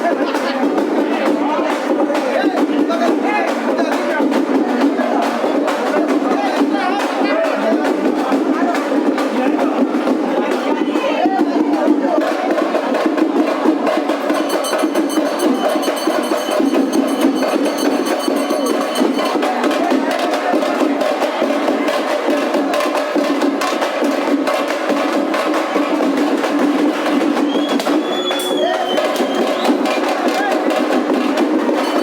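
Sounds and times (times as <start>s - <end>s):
drums beating fast: 0.0s - 32.0s.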